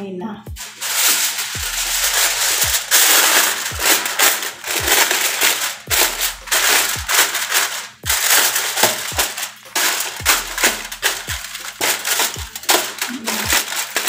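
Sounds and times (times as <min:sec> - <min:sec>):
background music thudding beat: 0:00.0 - 0:14.0
aluminium foil crinkling: 0:00.6 - 0:14.0.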